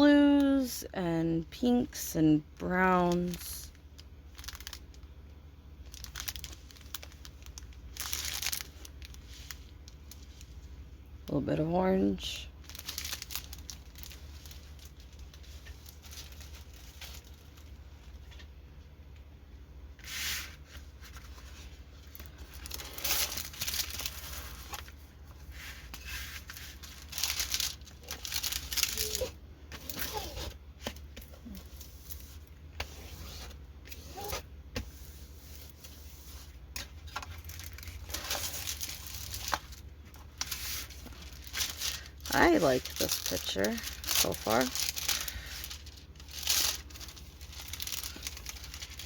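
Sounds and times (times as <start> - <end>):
plastic packaging crinkling: 2.6 - 5.2, 5.8 - 10.8, 11.4 - 18.5, 20.4 - 49.0.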